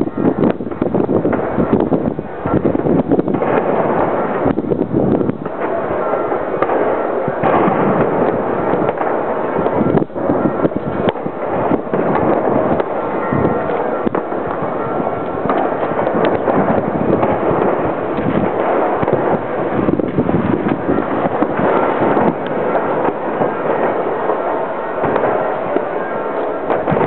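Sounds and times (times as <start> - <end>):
continuous loud din: 0.0 - 27.0
sharp bangs and pops: 0.0 - 27.0.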